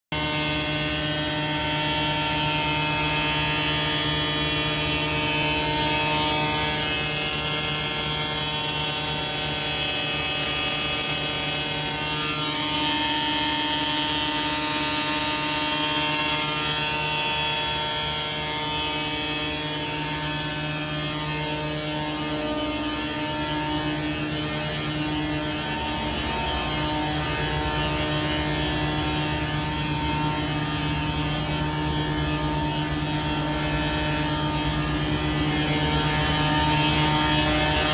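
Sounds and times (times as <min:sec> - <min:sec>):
pneumatic blower droning with whine: 0:00.2 - 0:37.9.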